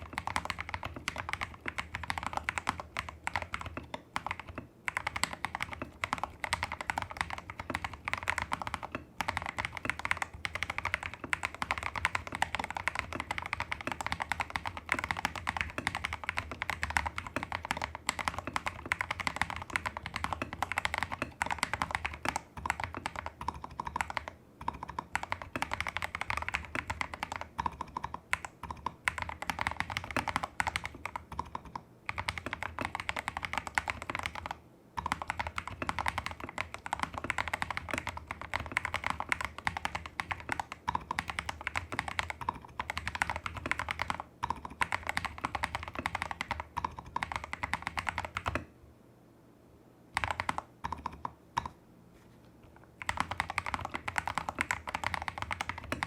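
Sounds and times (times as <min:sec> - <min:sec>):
mechanical keyboard typing: 0:00.0 - 0:48.7, 0:50.1 - 0:51.8, 0:53.0 - 0:56.0.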